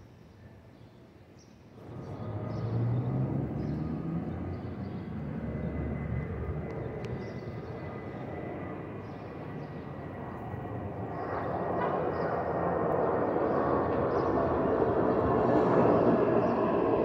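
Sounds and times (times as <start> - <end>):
jet airliner passing overhead: 1.8 - 17.0.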